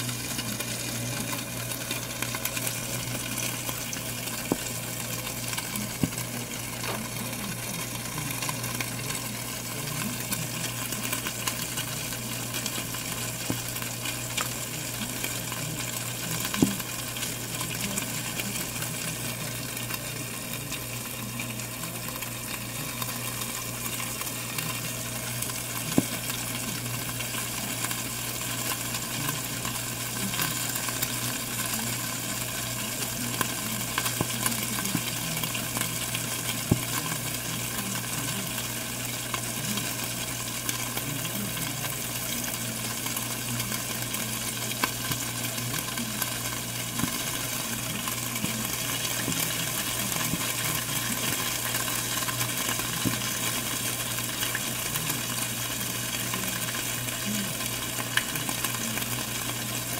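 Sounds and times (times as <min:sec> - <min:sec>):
cheese sizzling in a pan: 0:00.0 - 0:59.9
steady low hum: 0:00.0 - 0:59.9.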